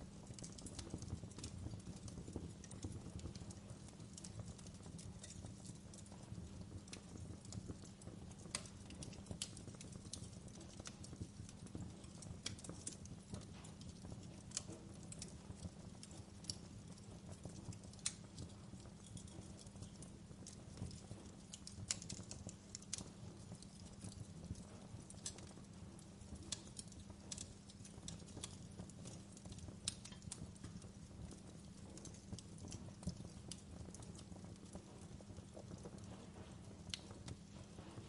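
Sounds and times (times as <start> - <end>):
burning logs popping and snapping: 0.0 - 38.0
low rumble of flames: 0.0 - 38.0.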